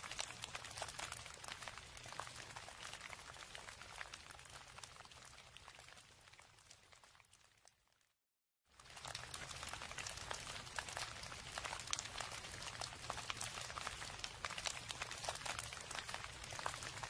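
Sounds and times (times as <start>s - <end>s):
raindrops ticking on hard surface: 0.0s - 7.8s, 8.8s - 17.0s.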